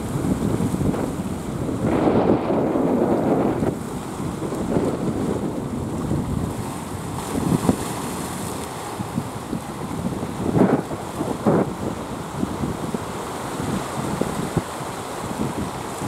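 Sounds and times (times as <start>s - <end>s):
small waves washing over rocks: 0.0s - 16.0s
wind rumbling on microphone: 0.0s - 16.0s.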